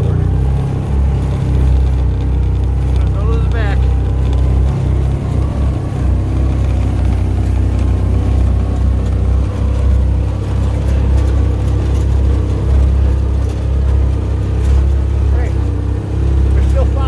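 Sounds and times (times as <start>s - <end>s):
engine droning while driving: 0.0s - 17.0s.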